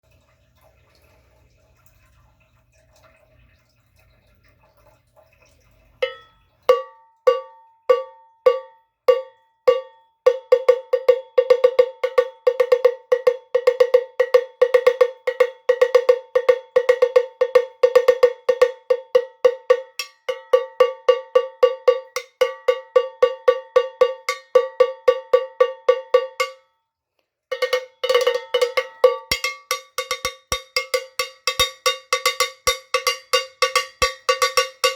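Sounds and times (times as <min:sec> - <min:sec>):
cowbell strikes: 0:06.0 - 0:26.7, 0:27.5 - 0:34.9.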